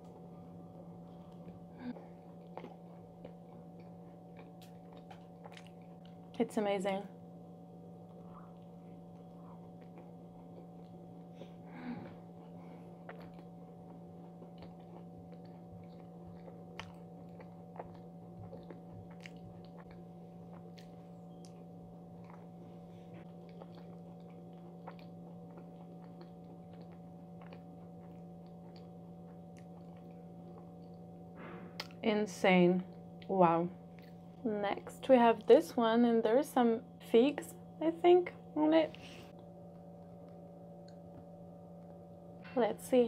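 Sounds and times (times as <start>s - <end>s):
person chewing soft food: 0.0s - 6.4s, 7.3s - 32.0s, 32.9s - 35.0s, 39.0s - 42.5s
steady low hum: 0.0s - 43.0s.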